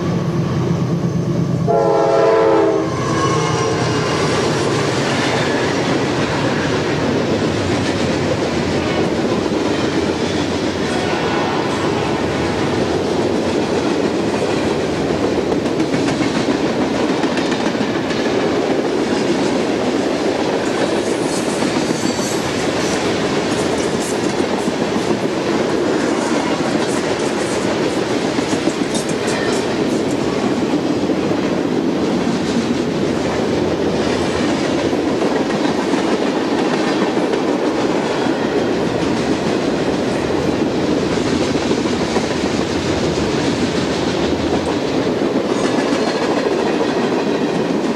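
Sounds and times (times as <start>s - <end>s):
train wheels on rail: 0.0s - 47.9s.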